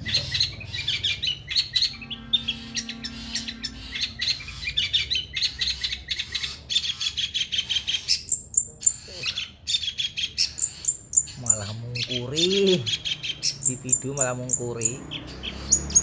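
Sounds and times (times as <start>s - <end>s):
bird singing chirping notes: 0.0s - 16.0s.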